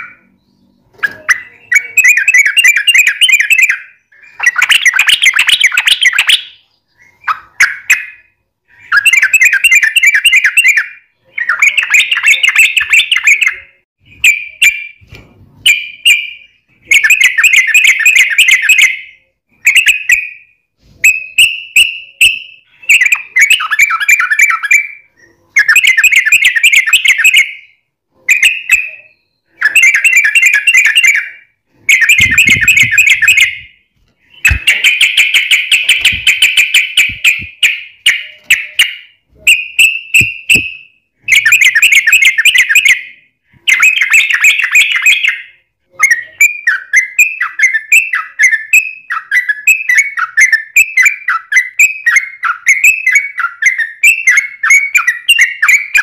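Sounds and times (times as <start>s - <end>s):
bird chattering song: 0.0s - 15.0s, 21.0s - 56.0s.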